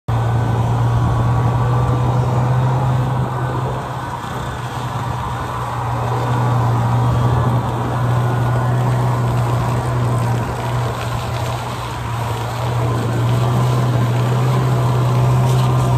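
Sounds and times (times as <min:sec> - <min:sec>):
snowmobile engine droning: 0:00.1 - 0:15.9.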